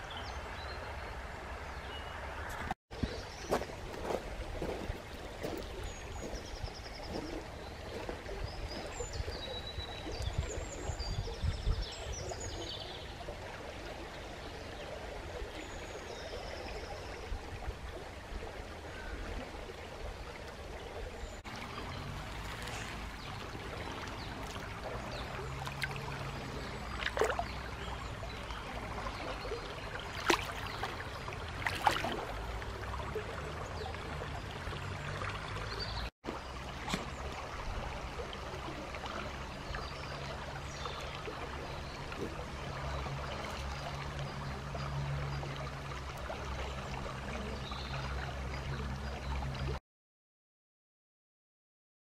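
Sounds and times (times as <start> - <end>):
stream flowing: 0.0 - 49.8.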